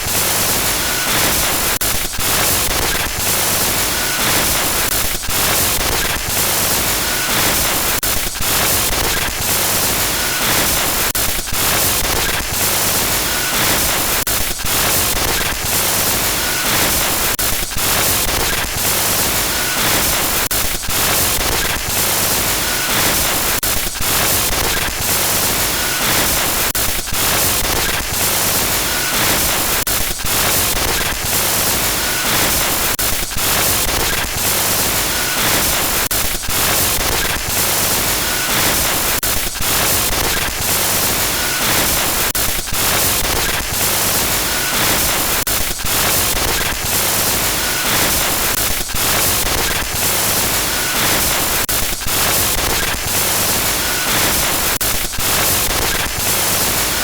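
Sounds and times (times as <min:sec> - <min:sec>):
harsh glitch static: 0:00.0 - 0:57.0.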